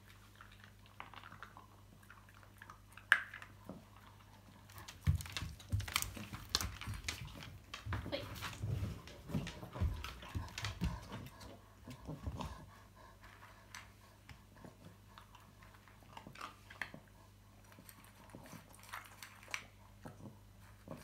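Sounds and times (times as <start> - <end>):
dog crunching dry kibble: 0.0 - 11.5, 14.6 - 21.0.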